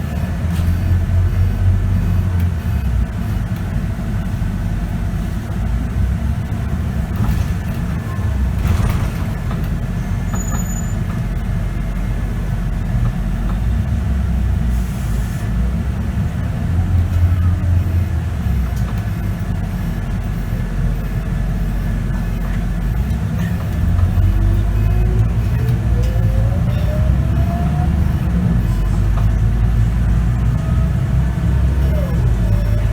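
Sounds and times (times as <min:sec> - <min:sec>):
bus engine rumble: 0:00.0 - 0:32.9.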